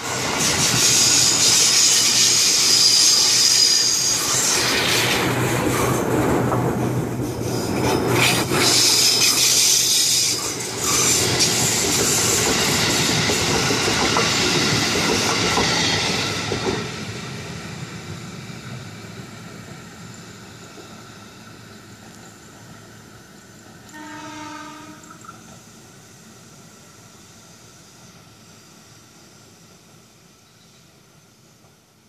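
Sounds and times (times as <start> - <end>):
train wheels clattering on track: 0.0 - 30.0, 30.6 - 32.0.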